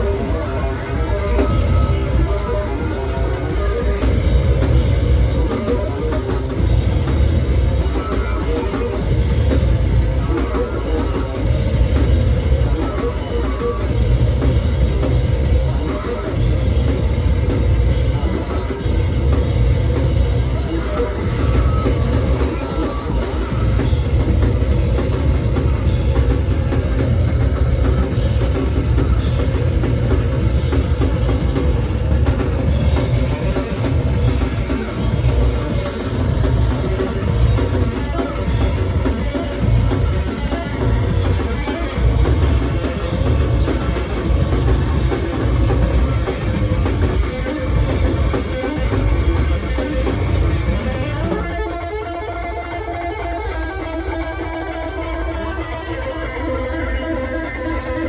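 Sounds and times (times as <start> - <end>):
distorted bass guitar: 0.0 - 51.8
drum kit pounding: 0.0 - 51.8.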